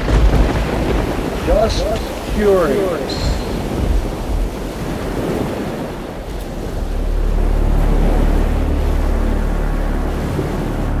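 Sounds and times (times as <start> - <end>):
ocean surf rushing: 0.0 - 11.0
wind: 0.0 - 11.0.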